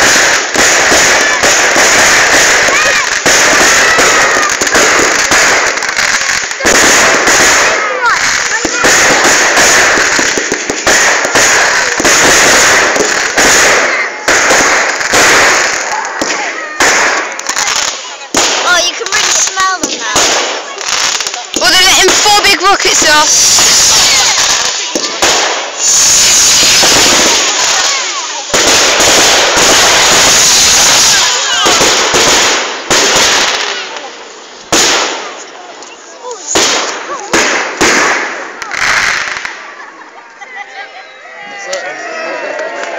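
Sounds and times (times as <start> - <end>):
fireworks hissing: 0.0 - 42.4
fireworks blasts: 0.0 - 42.9.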